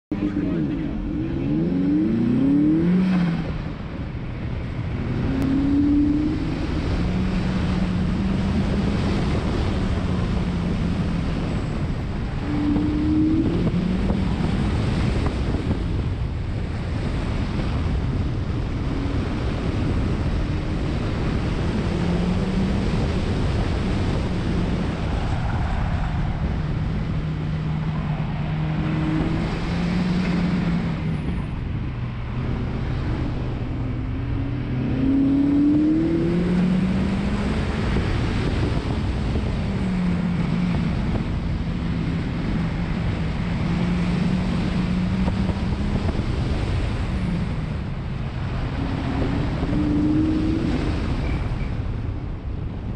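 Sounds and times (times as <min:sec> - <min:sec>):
wind on microphone: 0:00.1 - 0:52.9.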